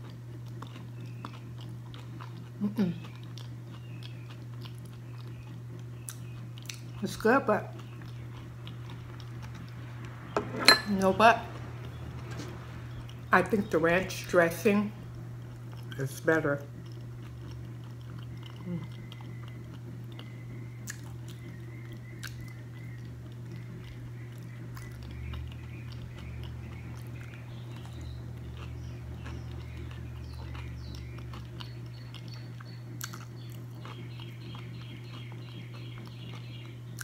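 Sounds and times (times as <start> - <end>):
person chewing: 0.0 - 7.0, 7.7 - 10.4, 15.1 - 16.0, 16.6 - 37.0
steady low hum: 0.0 - 37.0.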